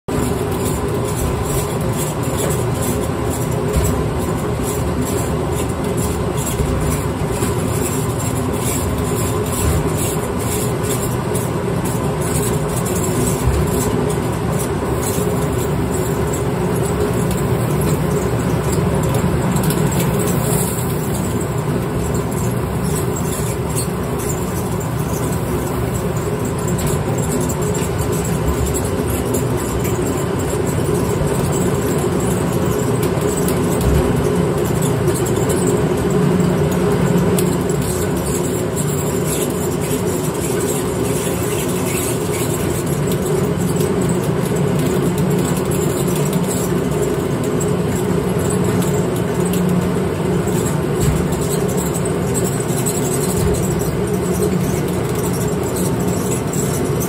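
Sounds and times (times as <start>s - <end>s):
grain mill running: 0.1s - 57.0s.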